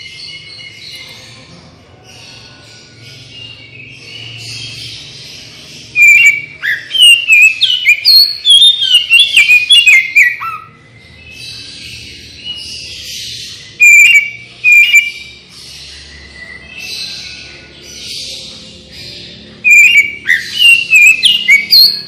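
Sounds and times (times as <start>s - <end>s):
bird singing whistled notes: 2.2s - 22.0s.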